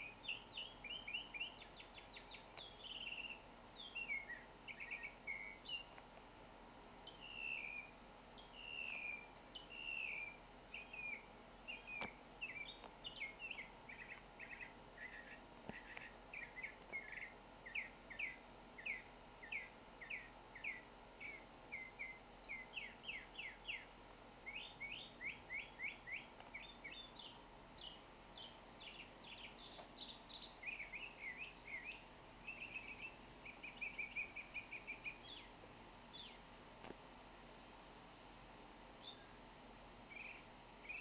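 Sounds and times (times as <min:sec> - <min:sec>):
mockingbird singing: 0:00.0 - 0:06.0, 0:07.0 - 0:36.4, 0:40.1 - 0:41.0.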